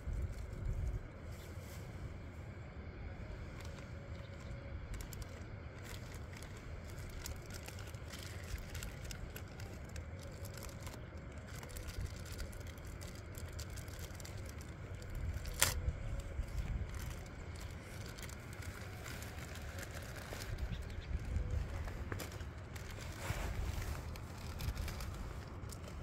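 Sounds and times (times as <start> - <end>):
wind rumble on microphone: 0.0 - 26.0
paper and plastic rustling: 3.2 - 26.0.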